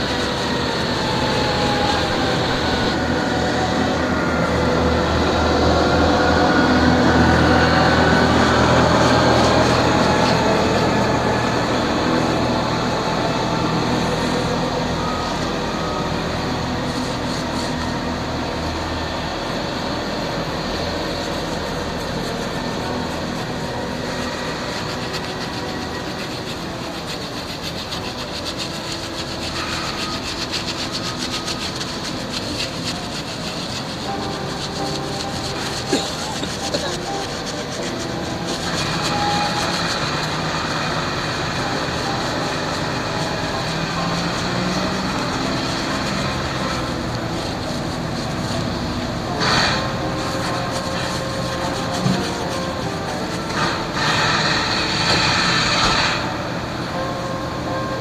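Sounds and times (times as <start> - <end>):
large machine rumbling: 0.0 - 57.8.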